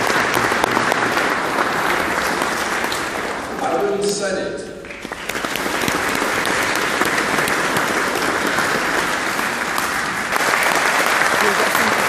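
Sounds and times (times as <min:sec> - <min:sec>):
audience applauding: 0:00.0 - 0:04.2, 0:04.8 - 0:12.0.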